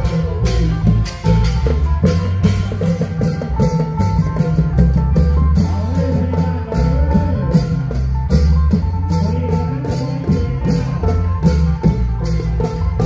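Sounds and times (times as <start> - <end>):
steady drum beats: 0.0 - 13.0.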